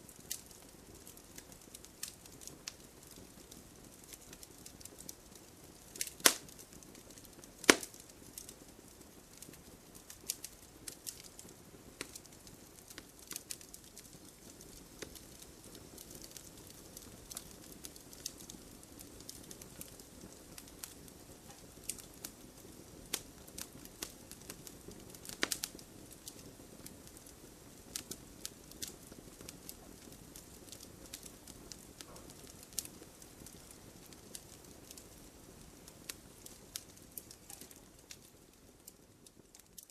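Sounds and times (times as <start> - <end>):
flame rushing: 0.1 - 38.5
campfire pops and snaps: 0.1 - 39.9.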